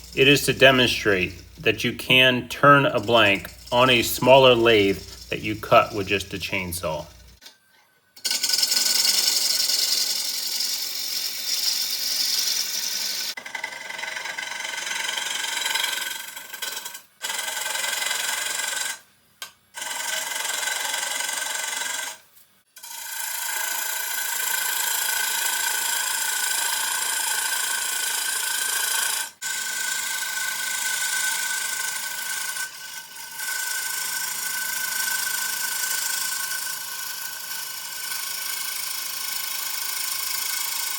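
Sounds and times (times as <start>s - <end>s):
lathe tool scraping wood: 0.0s - 7.4s, 8.2s - 18.9s, 22.8s - 40.9s.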